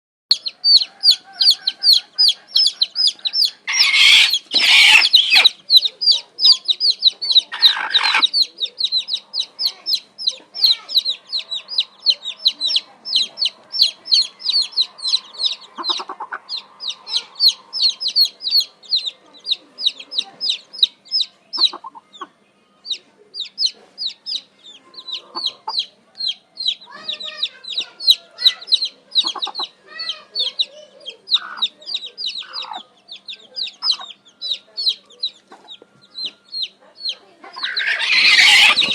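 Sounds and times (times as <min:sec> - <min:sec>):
chicks peeping: 0:00.3 - 0:38.9.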